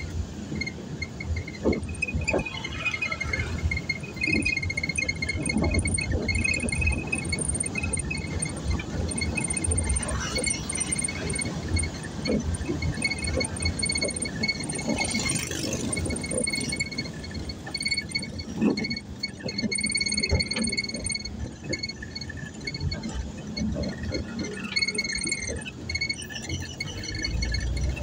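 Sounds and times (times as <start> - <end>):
engine and road rumble in cabin: 0.0 - 28.0.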